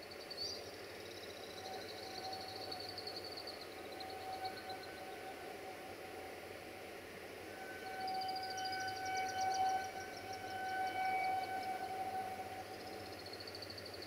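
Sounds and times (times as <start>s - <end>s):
distant train whistle tone: 0.0s - 14.0s.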